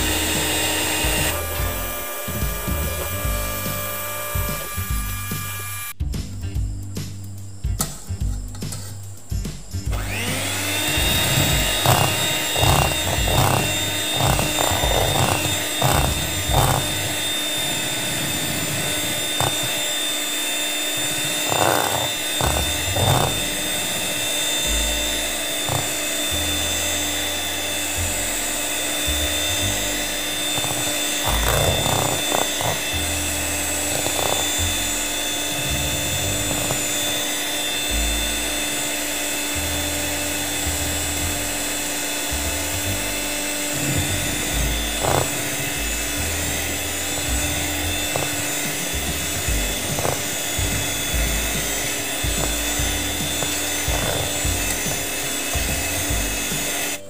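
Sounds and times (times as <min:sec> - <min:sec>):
electric hand mixer whirring: 0:00.0 - 0:06.0, 0:09.2 - 0:57.0.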